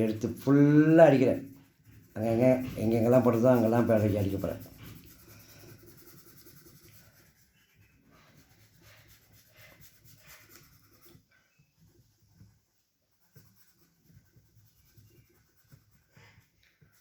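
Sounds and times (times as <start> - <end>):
pencil shading on paper: 0.0 - 17.0.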